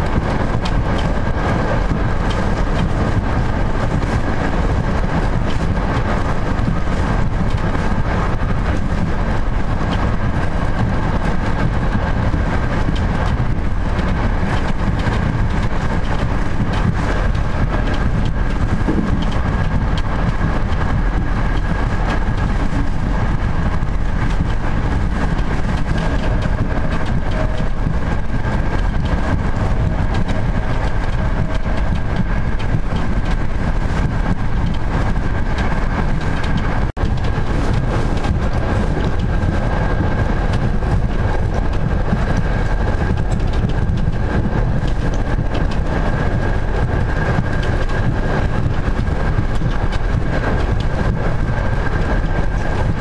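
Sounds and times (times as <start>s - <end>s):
train wheels rumbling on track: 0.0s - 53.0s.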